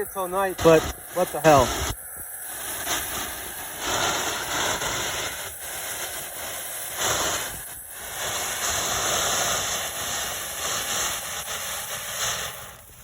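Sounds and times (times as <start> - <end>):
fountain firework hissing: 0.0 - 13.0.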